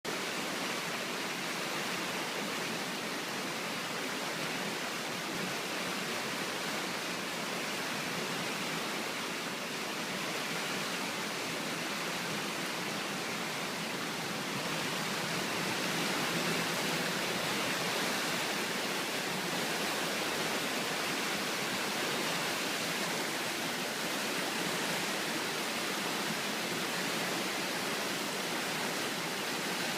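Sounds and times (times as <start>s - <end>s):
river water rushing: 0.1s - 29.9s.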